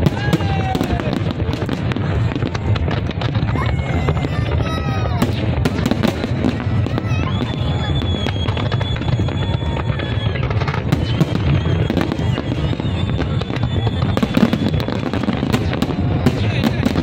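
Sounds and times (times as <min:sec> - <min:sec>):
fireworks booming: 0:00.0 - 0:17.0
fireworks cracks: 0:00.0 - 0:17.0.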